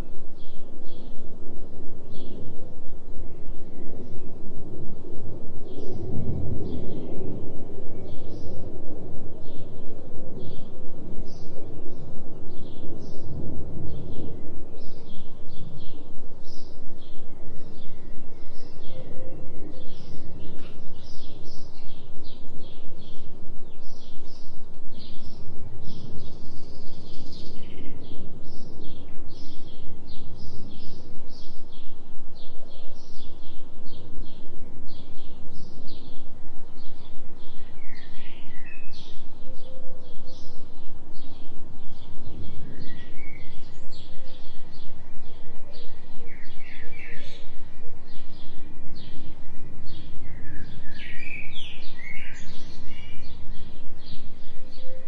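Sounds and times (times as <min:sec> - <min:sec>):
low hum and noise: 0:00.0 - 0:55.0.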